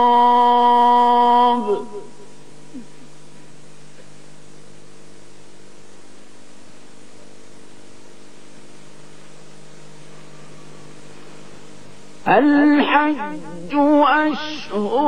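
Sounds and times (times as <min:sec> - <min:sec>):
constant hiss: 0:00.0 - 0:15.0
electrical mains hum: 0:00.0 - 0:15.0.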